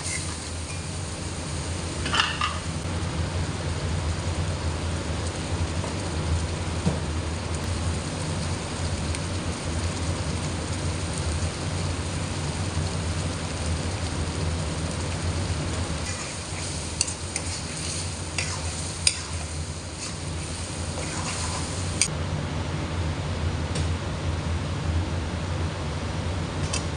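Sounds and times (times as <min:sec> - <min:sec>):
curry sizzling and bubbling: 0:00.0 - 0:22.1
steady low hum: 0:00.0 - 0:26.4.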